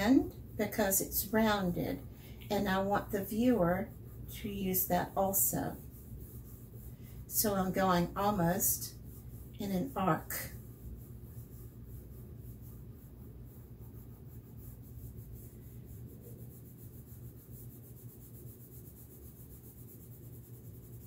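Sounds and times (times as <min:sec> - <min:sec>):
crayon scratching on paper: 0:00.0 - 0:21.0
low steady hum: 0:00.0 - 0:21.0.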